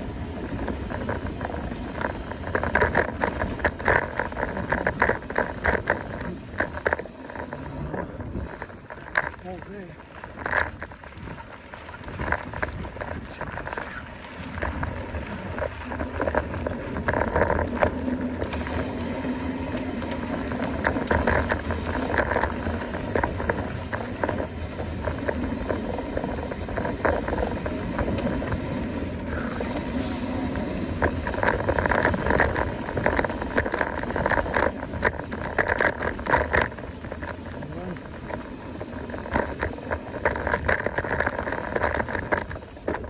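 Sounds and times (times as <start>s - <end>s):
bike rattling and knocking: 0.0s - 43.0s
bike tyres on dirt: 0.0s - 43.0s.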